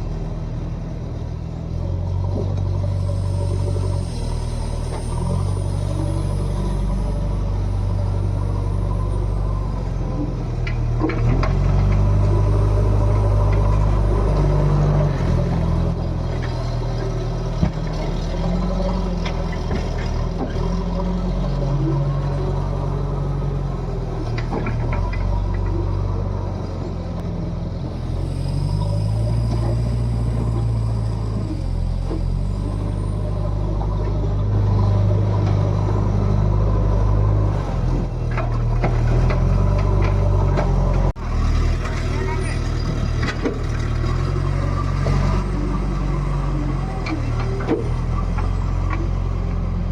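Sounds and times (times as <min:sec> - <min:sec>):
backhoe diesel engine working: 0:00.0 - 0:49.9.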